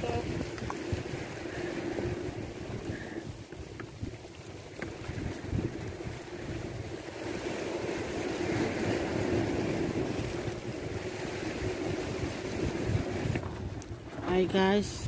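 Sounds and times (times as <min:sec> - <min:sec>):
waves washing against rocks: 0:00.0 - 0:15.0
wind buffeting microphone: 0:00.0 - 0:15.0.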